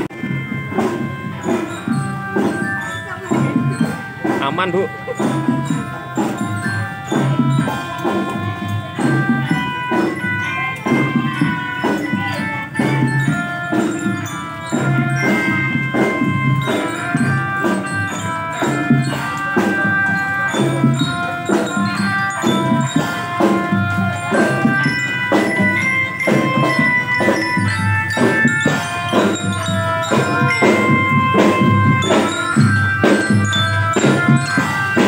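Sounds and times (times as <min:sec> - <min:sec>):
glockenspiel notes ringing: 0:00.0 - 0:35.0
steady drum beat: 0:00.0 - 0:35.0.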